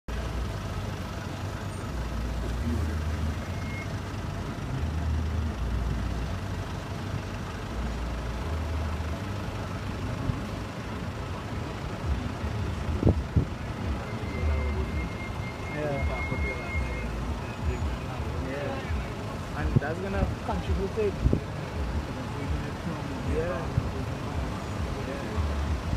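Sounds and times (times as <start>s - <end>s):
road traffic: 0.1s - 25.9s.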